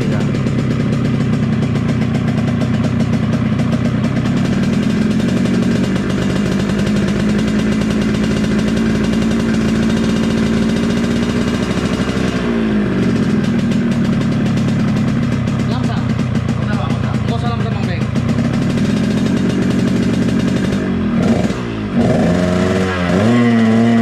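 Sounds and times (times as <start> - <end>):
motorcycle engine fast idle: 0.0 - 22.0.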